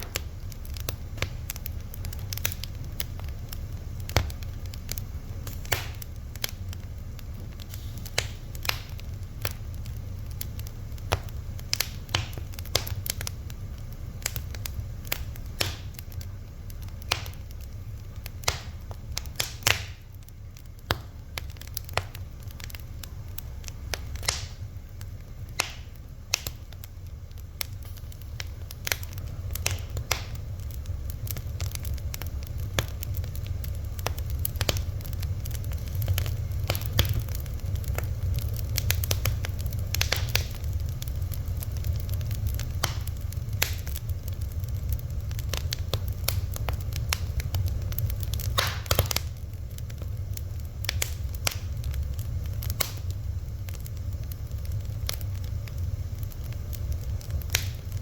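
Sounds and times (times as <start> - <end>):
fire low rumble: 0.0 - 58.0
wood fire crackling and popping: 0.0 - 58.0.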